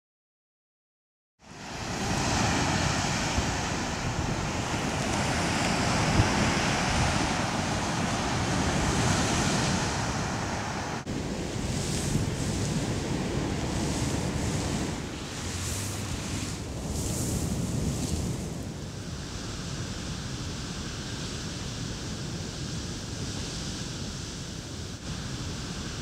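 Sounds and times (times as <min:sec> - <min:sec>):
sea surf rushing: 0:01.4 - 0:26.0
wind: 0:01.4 - 0:26.0.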